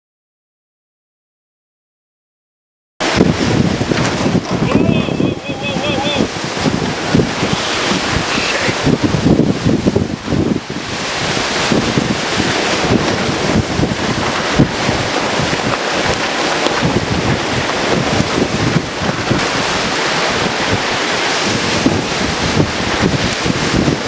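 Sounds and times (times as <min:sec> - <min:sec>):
strong wind rushing: 0:03.0 - 0:24.0
wind buffeting microphone: 0:03.0 - 0:24.0.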